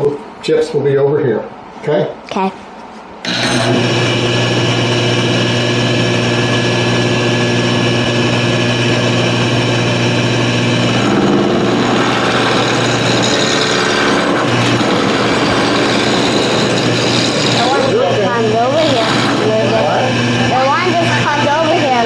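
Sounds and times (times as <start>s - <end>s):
woodshop machinery humming: 3.2s - 22.0s.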